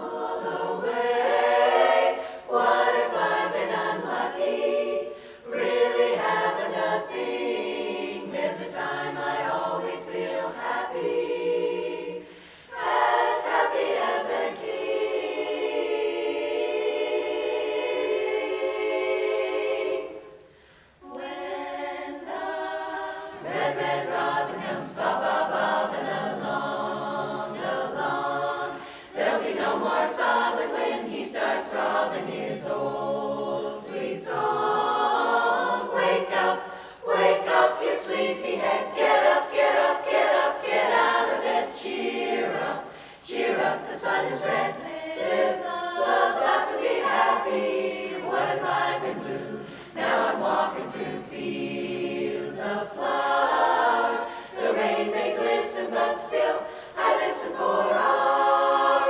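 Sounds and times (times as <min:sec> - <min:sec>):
women's chorus singing a cappella: 0:00.0 - 0:59.0.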